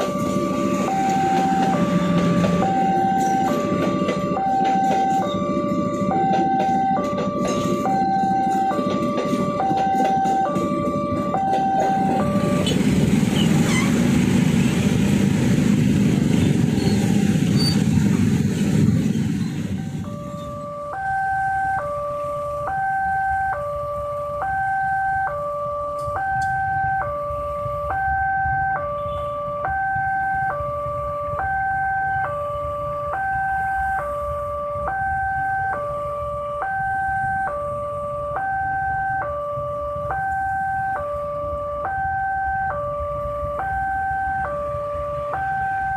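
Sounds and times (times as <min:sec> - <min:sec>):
crossing warning alarm tones: 0:00.0 - 0:45.9
train rumbling over crossing: 0:00.0 - 0:45.9.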